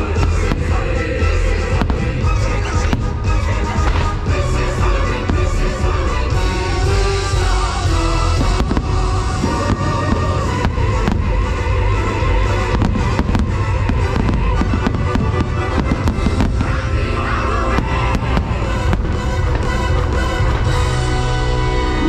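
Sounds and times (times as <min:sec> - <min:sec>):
fireworks bursting: 0:00.0 - 0:21.8
loud soundtrack music: 0:00.0 - 0:22.0.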